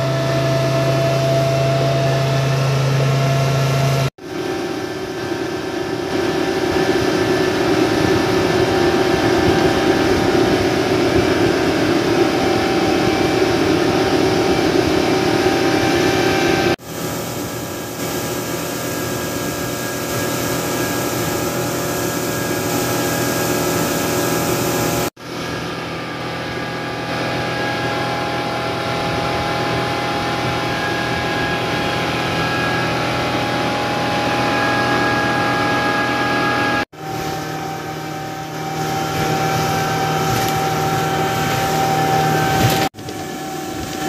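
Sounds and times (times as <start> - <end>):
motorboat engine running: 0.0 - 44.0.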